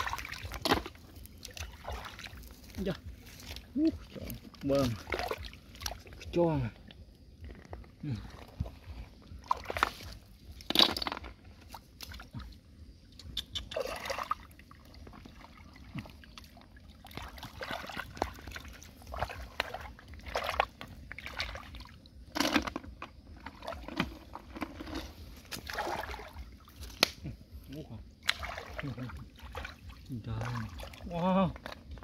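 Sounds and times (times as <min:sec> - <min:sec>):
splashing in shallow muddy water: 0:00.0 - 0:32.0.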